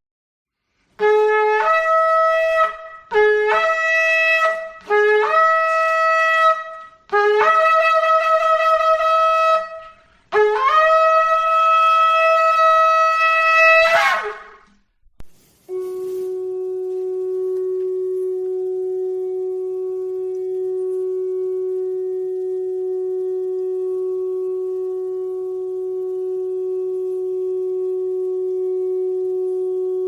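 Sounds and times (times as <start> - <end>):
shofar blasts: 1.0 - 14.7, 15.4 - 30.0.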